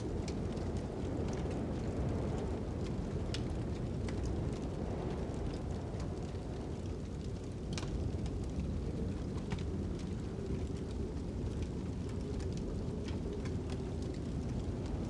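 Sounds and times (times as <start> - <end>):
fire crackling with pops: 0.0 - 15.0
rushing wind: 0.0 - 15.0.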